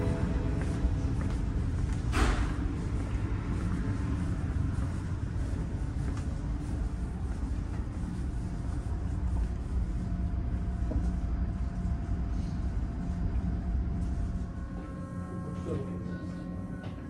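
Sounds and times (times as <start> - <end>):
low drone of ship machinery: 0.0 - 17.0.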